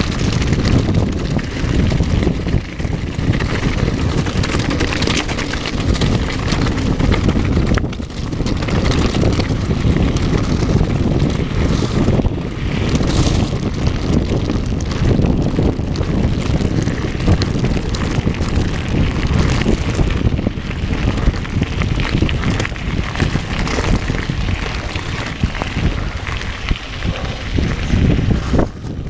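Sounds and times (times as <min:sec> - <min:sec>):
tyres crunching over gravel: 0:00.0 - 0:29.0
wind noise on microphone: 0:00.0 - 0:29.0.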